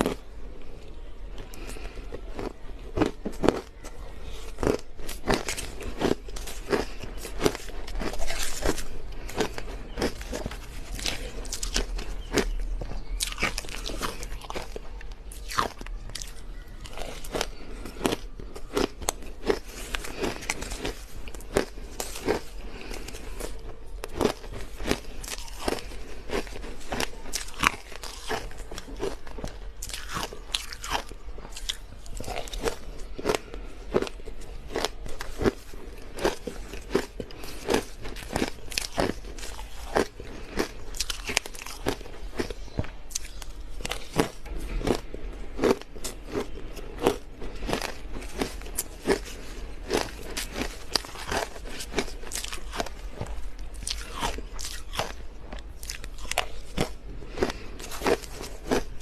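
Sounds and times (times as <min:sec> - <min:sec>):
crunching of chewed ice: 0:00.0 - 0:59.0.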